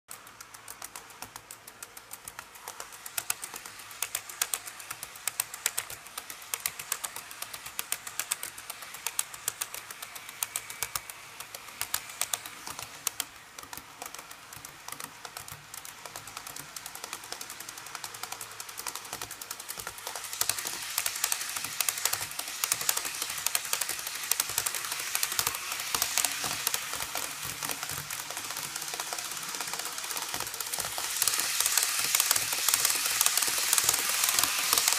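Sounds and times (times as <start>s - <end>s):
light whirring hiss: 0.1s - 34.9s
model train wheels clattering: 0.1s - 34.9s.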